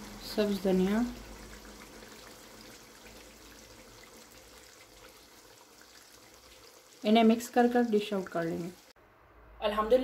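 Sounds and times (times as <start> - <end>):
gravy sizzling in a wok: 0.0 - 9.0.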